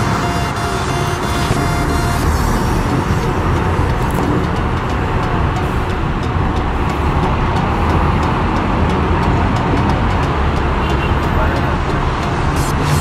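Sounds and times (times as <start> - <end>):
diesel truck and bus engines: 0.0 - 13.0
heavy road traffic rumble: 0.0 - 13.0.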